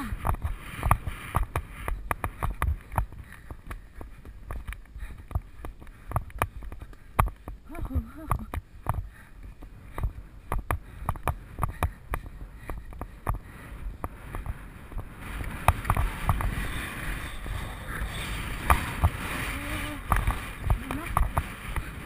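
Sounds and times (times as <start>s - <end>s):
hooves thudding on turf: 0.0s - 22.0s
steady rushing noise: 0.0s - 22.0s.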